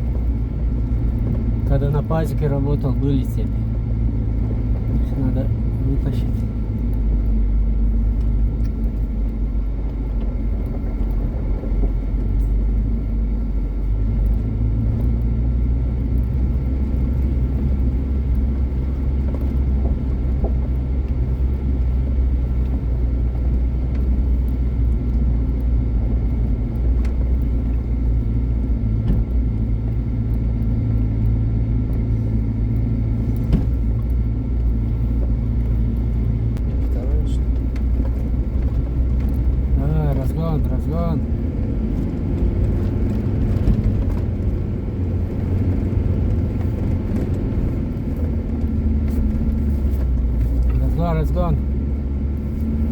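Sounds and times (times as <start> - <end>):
vehicle engine droning: 0.0 - 52.9.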